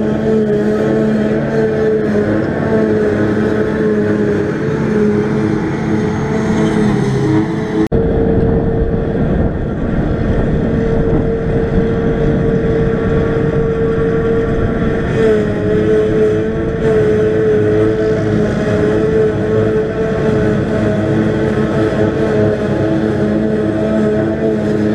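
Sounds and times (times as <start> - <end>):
forage harvester engine running: 0.0 - 24.9
high machine whine: 0.0 - 24.9.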